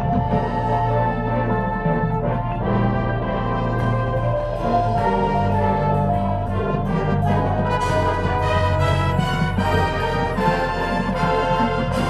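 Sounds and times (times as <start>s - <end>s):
brass sustained chords: 0.0s - 12.0s
low held notes: 0.0s - 12.0s
percussion hits: 0.0s - 12.0s.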